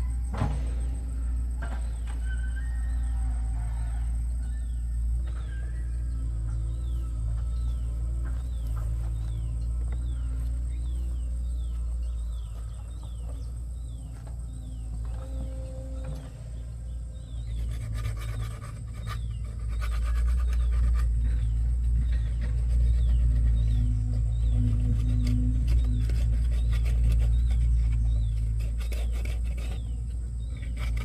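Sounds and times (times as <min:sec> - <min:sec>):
bird chirping: 0:00.0 - 0:31.0
steady low hum: 0:00.0 - 0:31.0.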